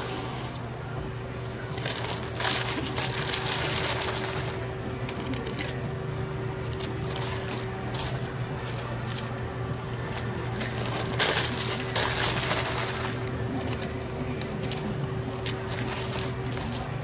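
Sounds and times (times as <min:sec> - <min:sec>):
steady low hum: 0:00.0 - 0:17.0
wrapping paper crinkling: 0:00.0 - 0:17.0.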